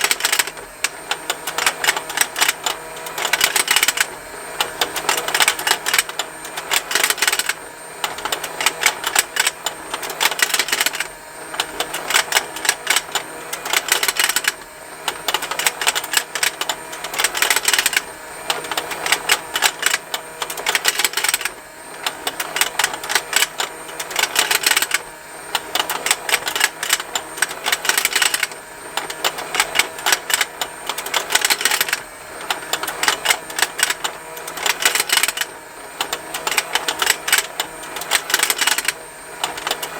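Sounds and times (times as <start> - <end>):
rapid plastic ticking: 0.0 - 4.1, 4.8 - 25.0, 25.6 - 39.9
small toy motor humming: 0.0 - 39.9.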